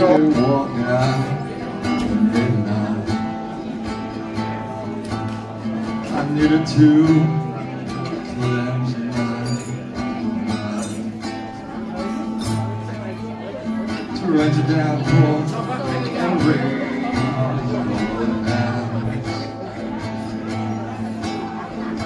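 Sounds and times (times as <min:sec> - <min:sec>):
man singing: 0:00.0 - 0:03.7, 0:05.8 - 0:22.0
strummed acoustic guitar: 0:00.0 - 0:22.0.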